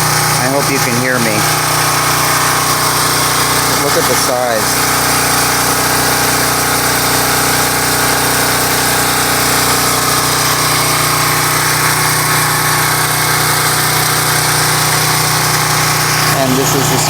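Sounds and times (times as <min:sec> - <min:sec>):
generator engine droning: 0:00.0 - 0:17.0.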